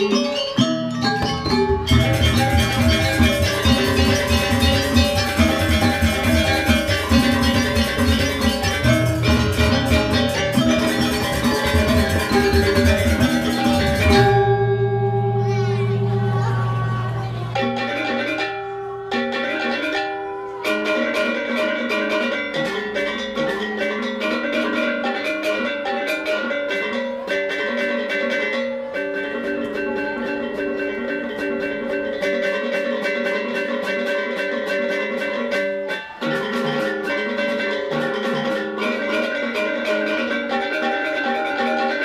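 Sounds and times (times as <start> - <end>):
drums: 0.0 - 42.0
gamelan ensemble playing: 0.0 - 42.0.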